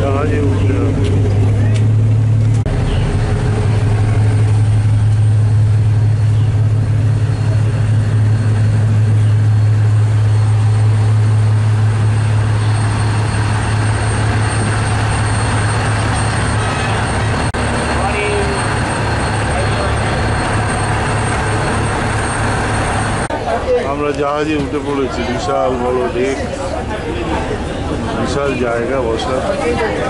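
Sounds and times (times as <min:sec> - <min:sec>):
ferry engines idling: 0:00.0 - 0:30.0.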